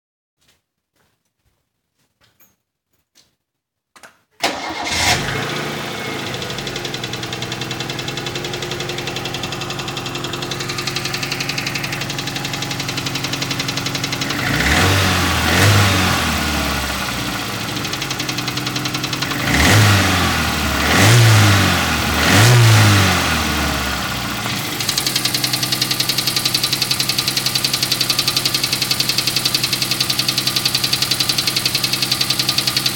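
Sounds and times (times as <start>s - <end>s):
car engine starting and idling: 4.4s - 32.9s
engine revving: 4.5s - 32.9s.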